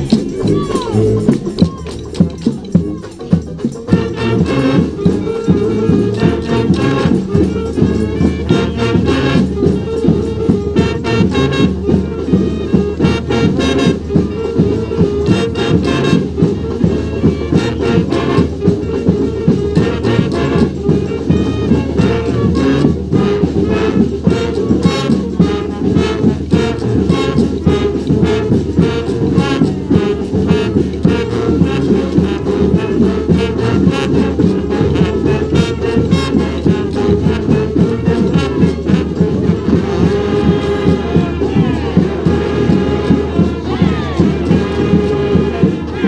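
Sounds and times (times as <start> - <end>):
brass band playing: 0.0 - 46.0
steady drum beat: 0.0 - 46.0.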